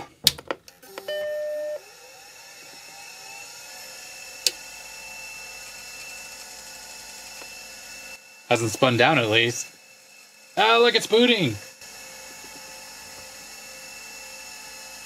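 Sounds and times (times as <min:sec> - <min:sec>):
hard drive whine: 0:00.8 - 0:15.0.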